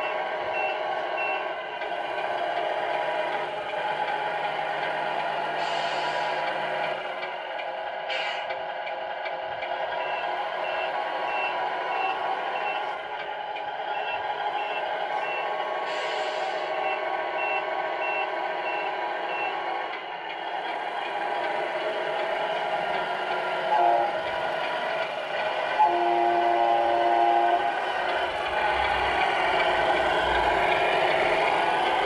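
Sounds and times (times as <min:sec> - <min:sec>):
simulated diesel engine running: 0:00.0 - 0:32.0.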